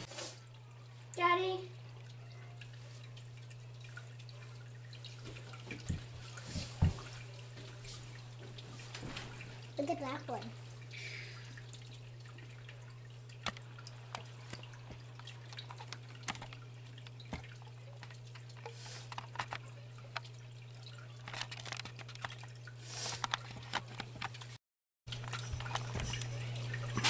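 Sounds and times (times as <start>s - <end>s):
aquarium filter humming: 0.0s - 27.0s
water trickling and dripping: 0.0s - 27.0s
small drips and clicks: 0.4s - 27.0s.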